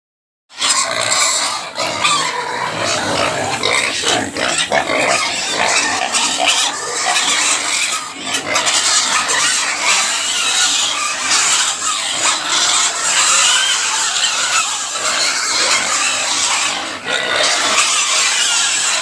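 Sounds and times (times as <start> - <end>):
pig squealing loudly: 0.5 - 19.0.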